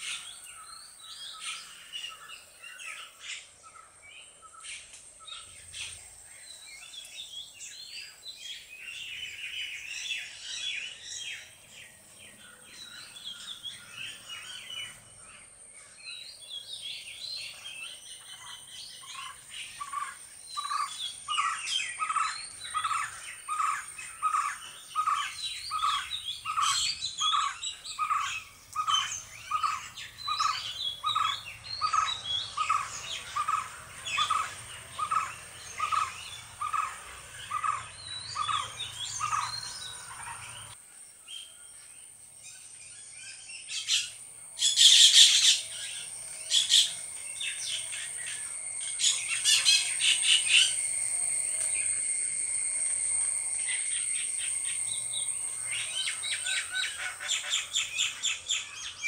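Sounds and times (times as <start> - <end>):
birds chirping and calling: 0.0 - 59.0.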